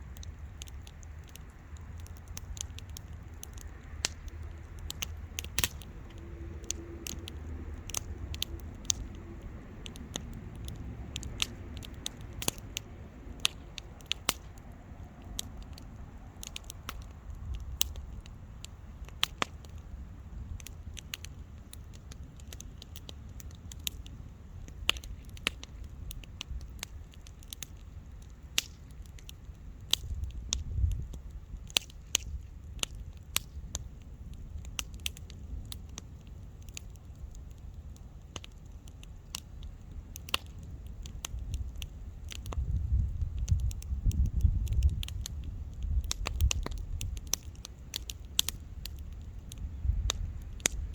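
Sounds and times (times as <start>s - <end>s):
bonfire crackling: 0.0s - 50.9s.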